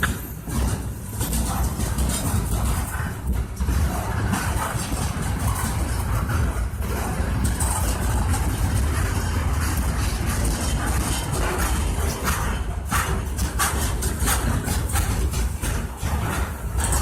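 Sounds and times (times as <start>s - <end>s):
wheels clanking on rails: 0.0s - 17.0s.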